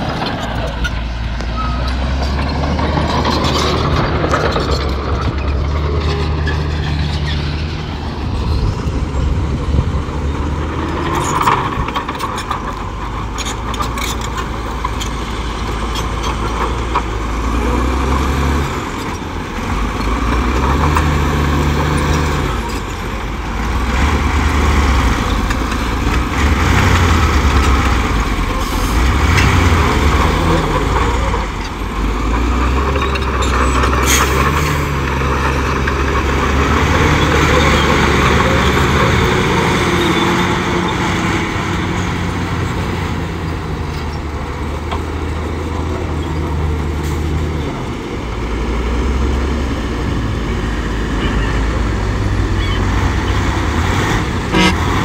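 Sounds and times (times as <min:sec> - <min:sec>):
heavy diesel machinery engine: 0:00.0 - 0:55.0.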